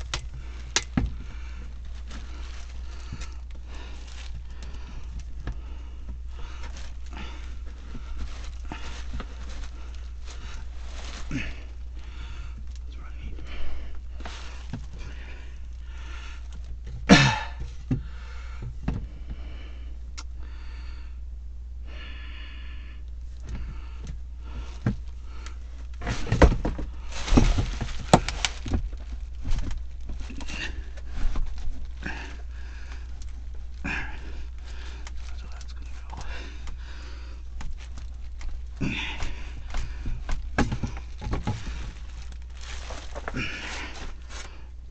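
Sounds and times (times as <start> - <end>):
steady low hum: 0.0 - 44.9
person breathing: 0.1 - 16.8, 17.5 - 29.1, 30.2 - 44.9.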